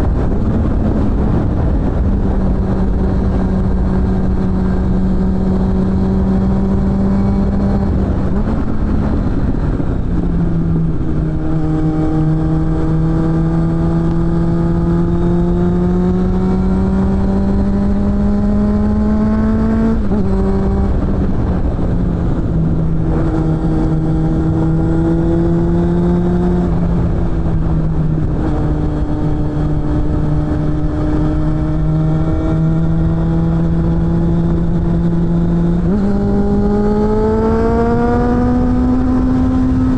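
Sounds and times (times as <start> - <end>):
motorcycle engine climbing in pitch: 0.0 - 39.9.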